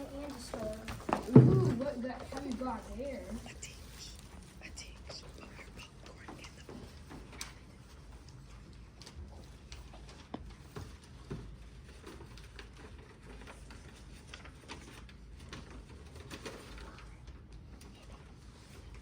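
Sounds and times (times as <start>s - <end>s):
objects being handled: 0.0s - 19.0s.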